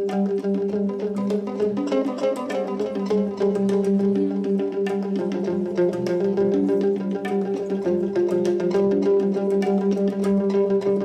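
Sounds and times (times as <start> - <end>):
hang drum notes: 0.0 - 11.0
plucked electric guitar: 0.0 - 11.0.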